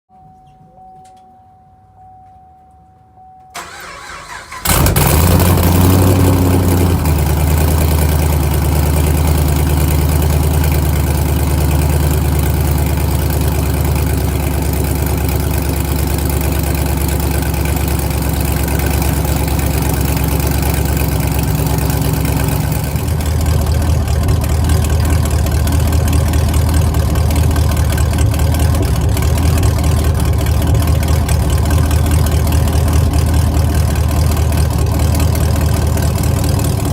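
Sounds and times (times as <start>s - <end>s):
loud car engine idling: 3.7s - 36.9s.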